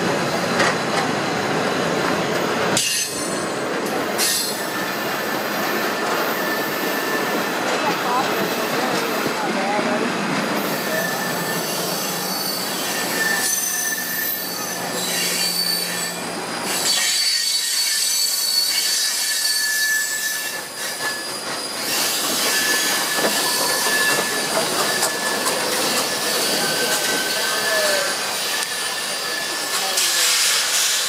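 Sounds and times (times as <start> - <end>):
train wheels rumbling on rail: 0.0 - 31.0
wheels squealing: 4.2 - 9.3, 10.6 - 31.0.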